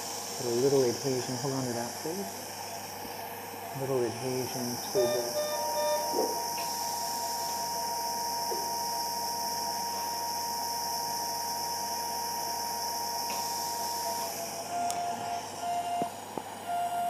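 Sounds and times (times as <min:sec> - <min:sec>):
electrosurgical activation tone: 0:00.0 - 0:17.0.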